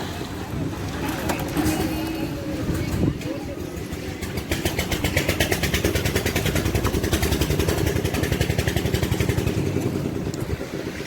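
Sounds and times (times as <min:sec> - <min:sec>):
concrete mixer engine running: 0:01.4 - 0:11.0.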